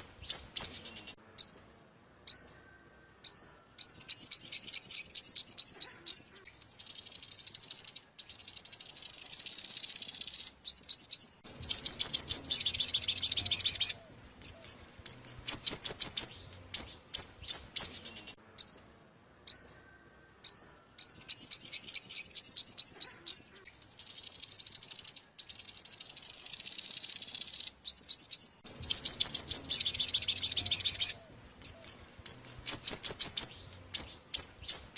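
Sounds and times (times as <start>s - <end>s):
sunbird chip notes and trills: 0.0s - 34.9s.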